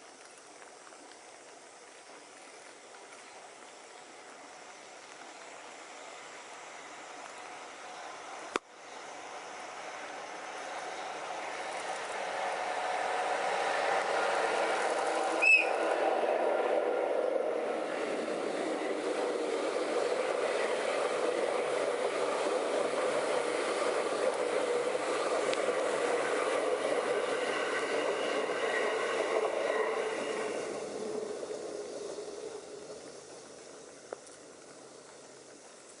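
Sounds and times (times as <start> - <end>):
faint steady hiss: 0.0 - 16.1, 17.0 - 36.0
train wheel and rail rumble: 0.0 - 36.0.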